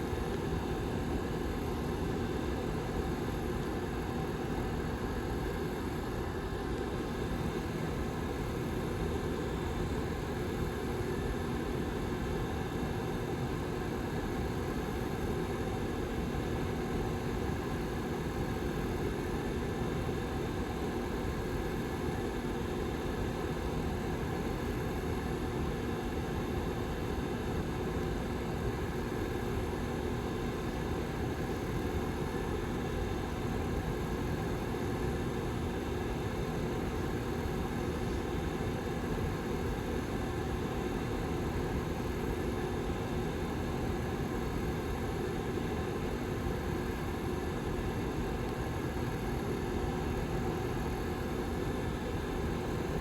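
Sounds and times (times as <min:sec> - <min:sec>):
heater fan running: 0:00.0 - 0:53.0.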